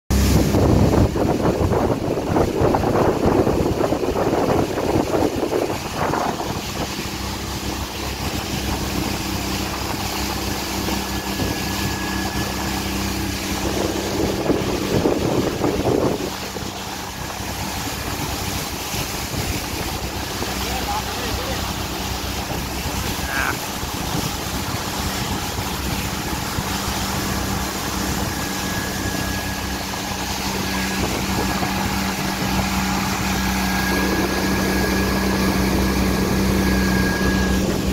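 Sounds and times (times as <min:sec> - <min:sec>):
motorboat engine running: 0:00.1 - 0:37.9
water splashing along hull: 0:00.1 - 0:37.9
wind buffeting microphone: 0:00.1 - 0:37.9.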